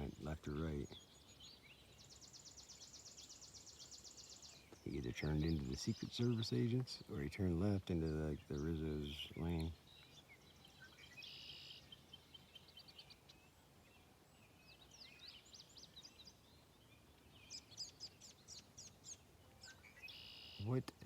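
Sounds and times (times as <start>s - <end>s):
faint birdsong chirps and trills: 0.0s - 21.0s.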